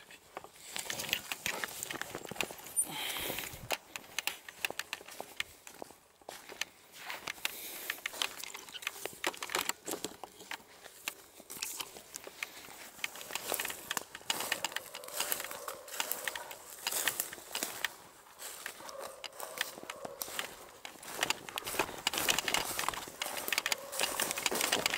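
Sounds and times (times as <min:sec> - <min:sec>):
footsteps crunching through dry leaves: 0:00.3 - 0:24.9
twigs snapping: 0:00.4 - 0:24.9.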